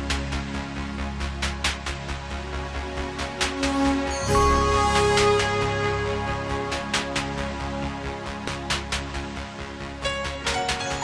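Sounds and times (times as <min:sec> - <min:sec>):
electronic chords over deep bass: 0:00.0 - 0:11.0.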